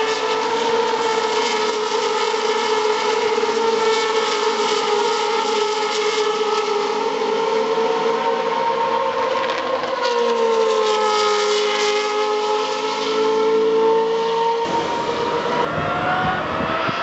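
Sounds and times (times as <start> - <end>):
racing car engines at full throttle: 0.0 - 17.0.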